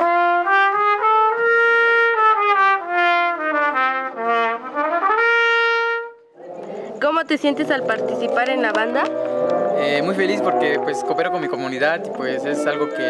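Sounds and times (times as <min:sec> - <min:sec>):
trumpet solo: 0:00.0 - 0:06.5, 0:07.6 - 0:13.0.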